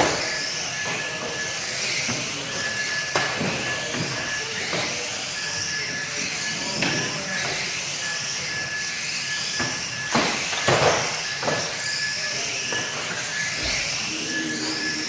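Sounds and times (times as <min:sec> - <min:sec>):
toy car motors whining: 0:00.0 - 0:15.0
toy cars bumping: 0:00.0 - 0:15.0.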